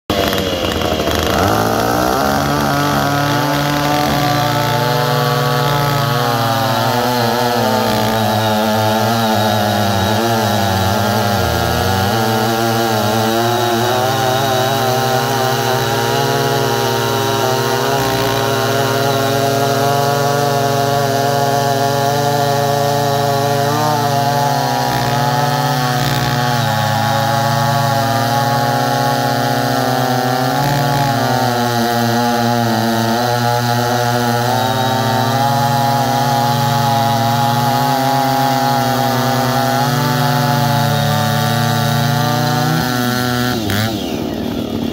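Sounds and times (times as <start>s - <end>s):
chainsaws cutting log: 0.0s - 44.9s.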